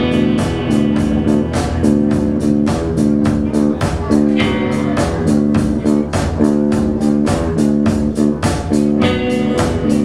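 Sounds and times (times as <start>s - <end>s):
bass guitar: 0.0s - 10.0s
drum kit beat: 0.0s - 10.0s
electric guitar chords: 0.0s - 10.0s.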